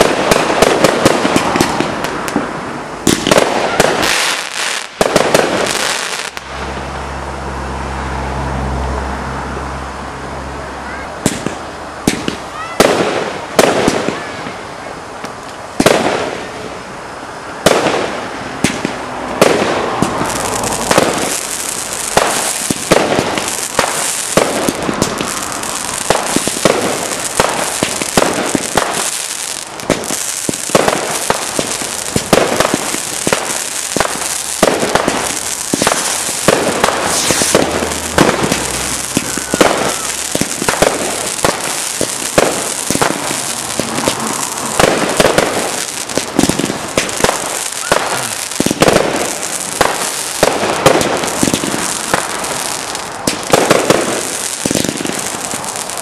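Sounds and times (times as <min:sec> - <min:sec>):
fireworks bangs and crackle: 0:00.0 - 0:07.9, 0:10.8 - 0:56.0.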